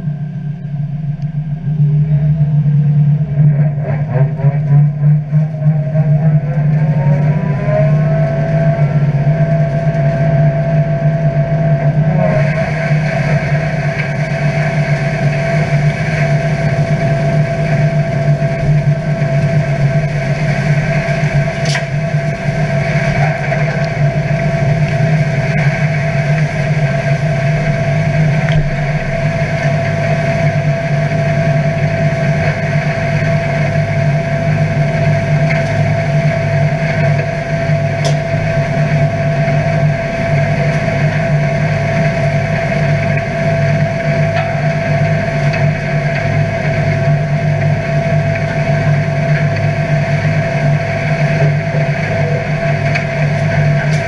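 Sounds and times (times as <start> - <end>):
straw chopper whine: 0.0 - 54.0
tractor engine hum: 0.0 - 54.0.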